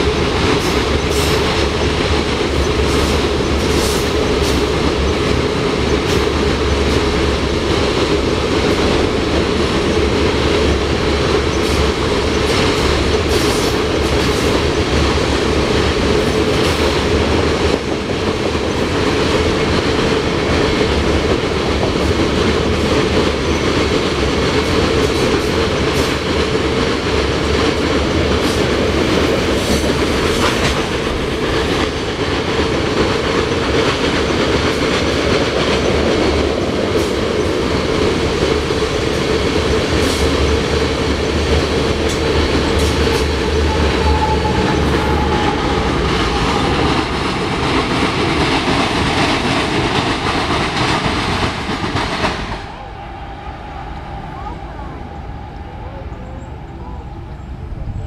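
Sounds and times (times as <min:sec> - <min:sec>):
wheels clicking over rail joints: 0:00.0 - 0:52.6
freight train rumbling past: 0:00.0 - 0:58.0.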